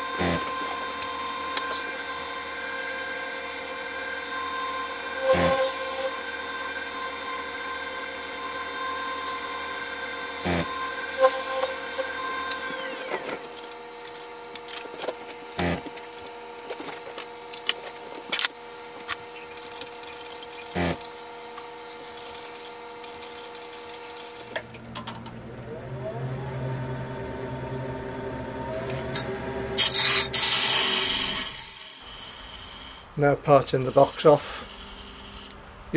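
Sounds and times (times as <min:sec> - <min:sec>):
wood lathe motor whine: 0:00.0 - 0:33.1
machine hum: 0:00.0 - 0:33.2.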